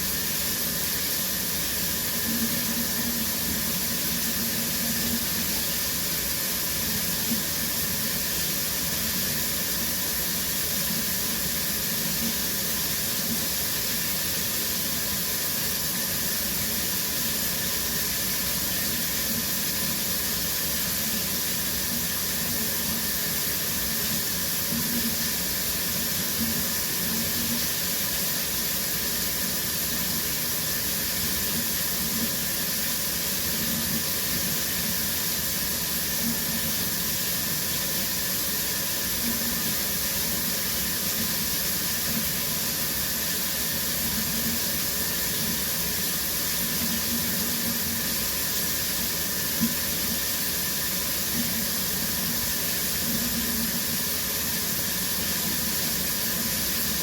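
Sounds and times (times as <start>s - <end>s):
shower water spraying: 0.0s - 57.0s.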